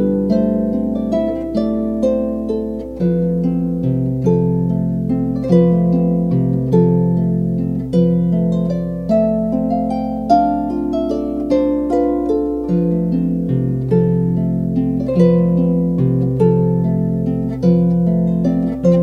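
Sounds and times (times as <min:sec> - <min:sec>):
harp plucked notes and chords: 0:00.0 - 0:19.0.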